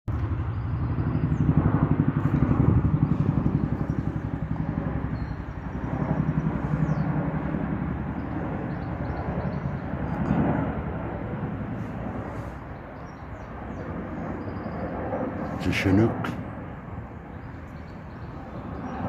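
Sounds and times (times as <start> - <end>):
helicopter rotor blades beating: 0.1 - 19.0.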